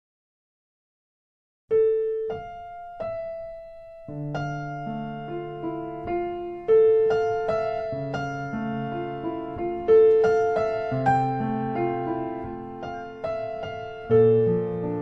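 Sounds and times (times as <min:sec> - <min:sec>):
solo piano music: 0:01.7 - 0:15.0.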